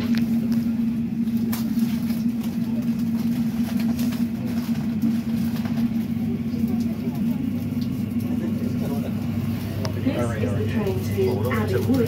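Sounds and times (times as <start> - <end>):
constant rumble: 0.0 - 12.0
train cabin hum: 0.0 - 12.0.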